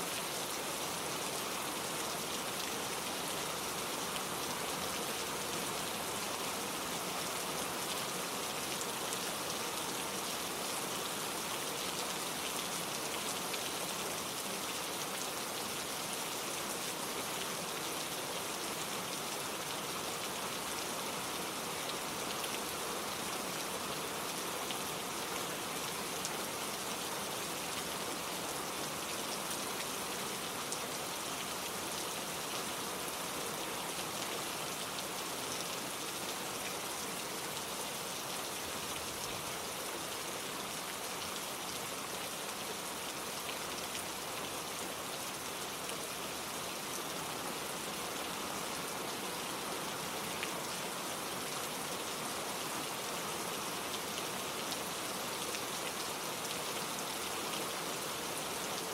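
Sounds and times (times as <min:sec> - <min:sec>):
gentle rain pattering: 0:00.0 - 0:58.9.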